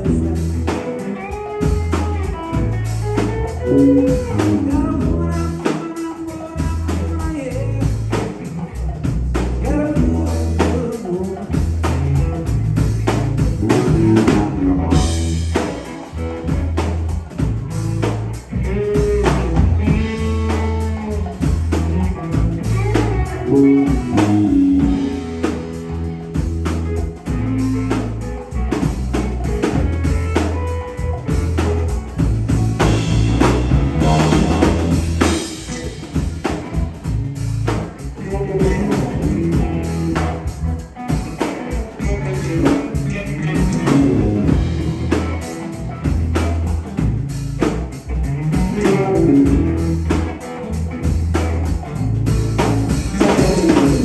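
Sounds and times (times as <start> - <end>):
drum kit and cymbals: 0.0 - 54.0
electric bass line: 0.0 - 54.0
electric guitar: 0.0 - 54.0.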